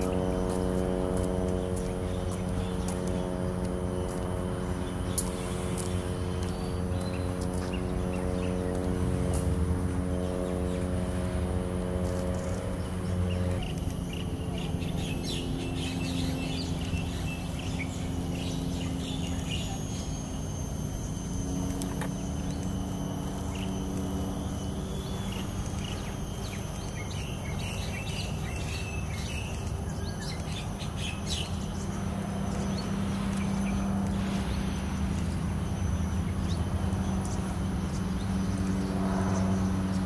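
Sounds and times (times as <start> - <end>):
birds chirping: 0.0 - 40.0
low background hum: 0.0 - 40.0
thin high whine: 0.0 - 40.0.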